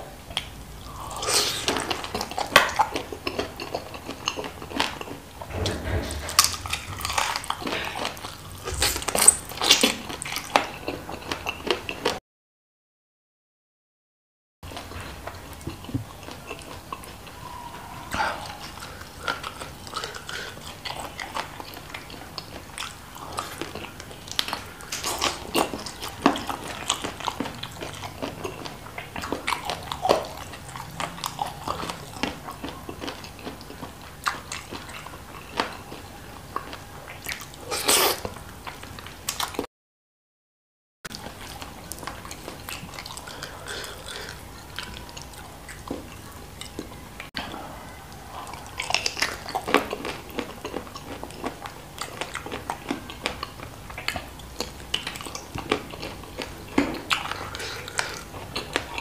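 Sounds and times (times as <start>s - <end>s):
wet chewing and lip smacking: 0.3s - 5.2s, 5.8s - 12.2s, 18.2s - 39.7s, 41.1s - 59.0s.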